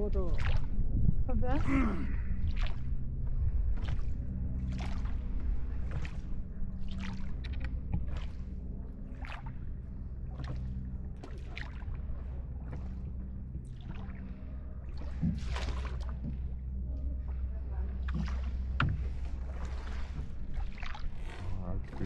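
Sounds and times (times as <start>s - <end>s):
oars swishing through water: 0.0s - 22.0s
steady low hum: 0.0s - 22.0s.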